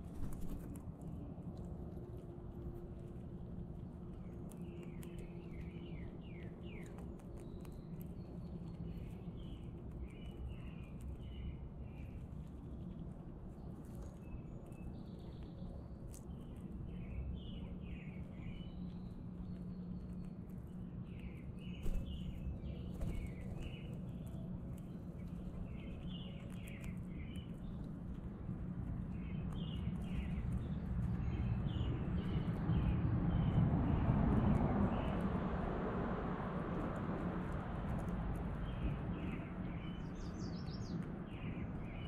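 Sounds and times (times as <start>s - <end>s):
songbirds chirping: 0.0s - 42.0s
steady low rumble: 0.0s - 42.0s.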